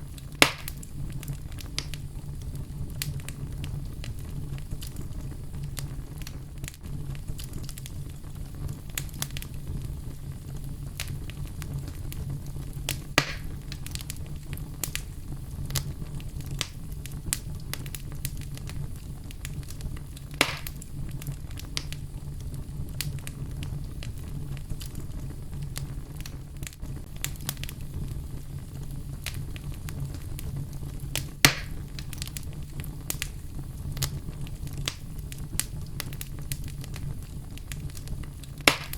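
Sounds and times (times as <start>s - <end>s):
fire crackling: 0.0s - 38.9s
loud fire pops: 0.0s - 38.9s.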